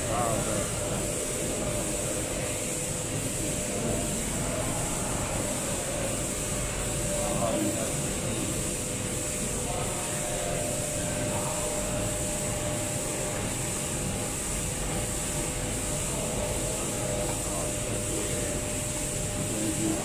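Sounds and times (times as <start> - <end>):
machinery hum and hiss: 0.0 - 20.0.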